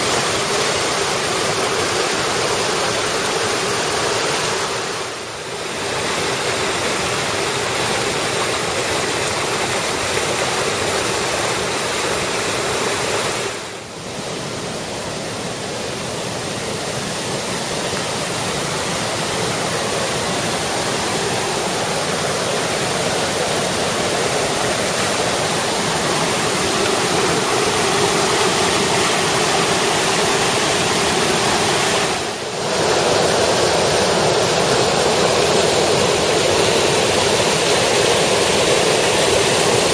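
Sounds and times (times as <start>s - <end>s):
creek rushing over rapids: 0.0s - 39.9s.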